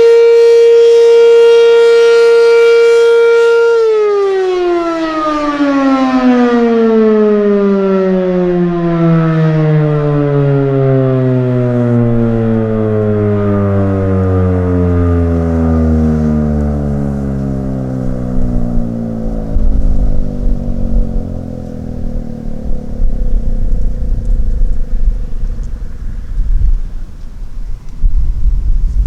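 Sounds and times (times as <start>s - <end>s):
tornado siren winding down: 0.0s - 28.0s.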